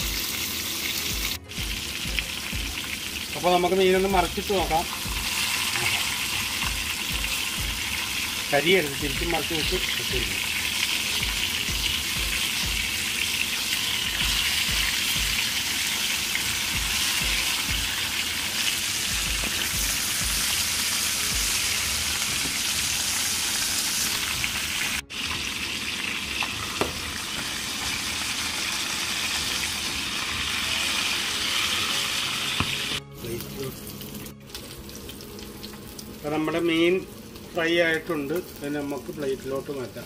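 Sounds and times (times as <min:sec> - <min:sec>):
fish sizzling in hot oil: 0:00.0 - 0:40.0.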